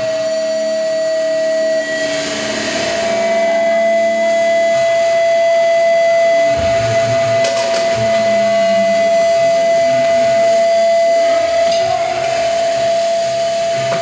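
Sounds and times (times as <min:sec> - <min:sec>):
audio feedback tone: 0:00.0 - 0:14.0
harsh noise haze: 0:00.0 - 0:14.0.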